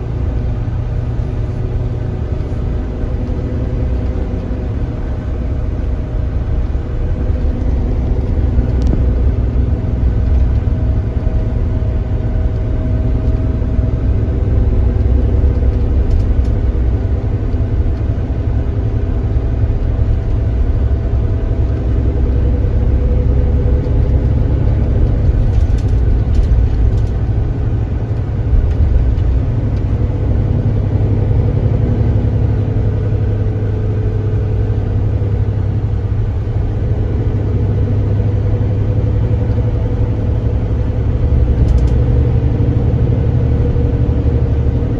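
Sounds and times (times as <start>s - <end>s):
coach engine rumbling: 0.0s - 44.9s.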